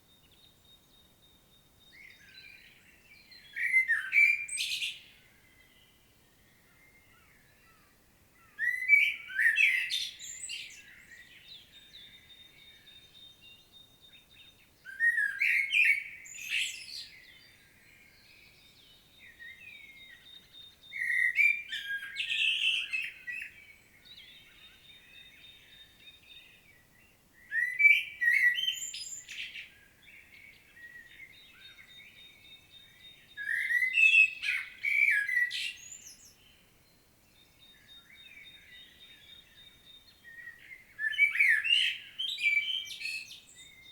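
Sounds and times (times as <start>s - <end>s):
blackbird singing: 0.0s - 43.9s.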